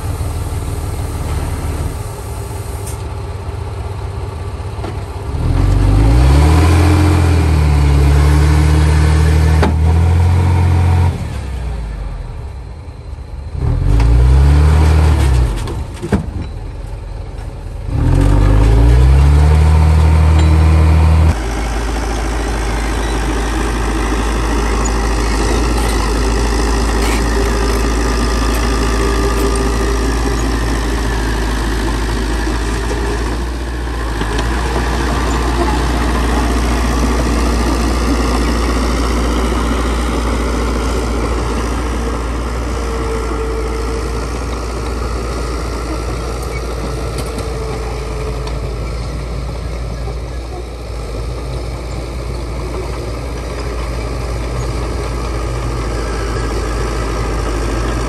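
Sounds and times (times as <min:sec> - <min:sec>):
heavy diesel engine revving: 0:05.2 - 0:12.0, 0:13.5 - 0:15.9, 0:17.8 - 0:58.0.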